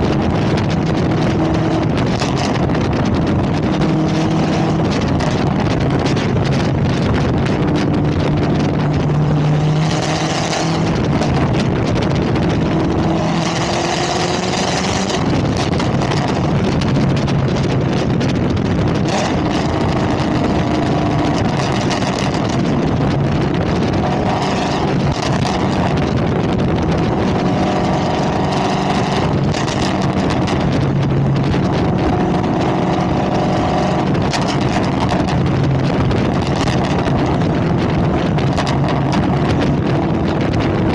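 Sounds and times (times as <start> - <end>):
loud car engine revving: 0.0 - 40.9.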